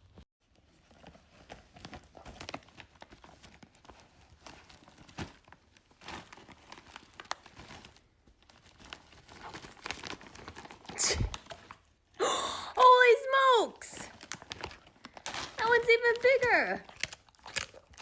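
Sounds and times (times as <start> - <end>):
packaging crinkling and rustling: 0.4 - 12.1, 12.8 - 18.0.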